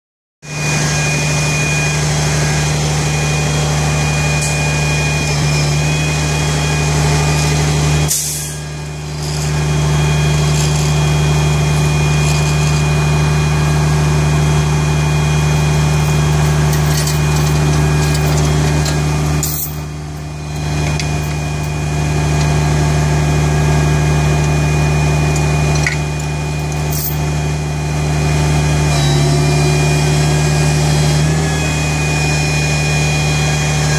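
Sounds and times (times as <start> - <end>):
truck engine idling: 0.5 - 28.9.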